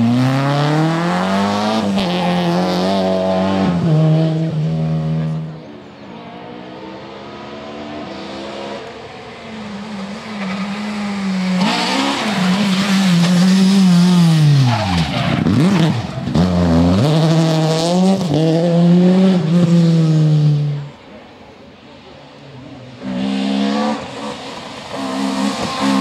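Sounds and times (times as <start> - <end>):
rally car engine at high revs: 0.0 - 21.1, 22.7 - 26.0.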